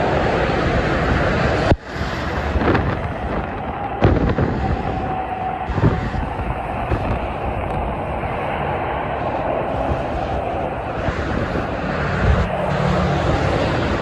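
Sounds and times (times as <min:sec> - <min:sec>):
highway traffic: 0:00.0 - 0:14.0.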